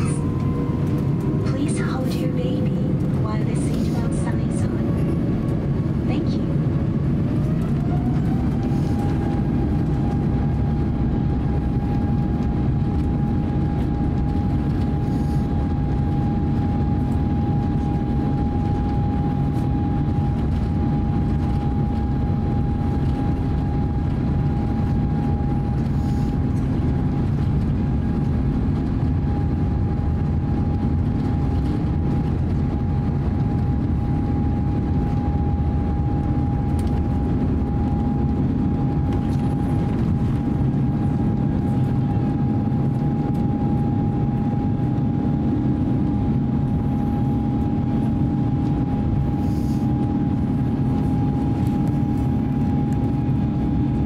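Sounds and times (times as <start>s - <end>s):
aircraft engines rumbling: 0.0s - 54.0s
steady whine: 0.0s - 54.0s.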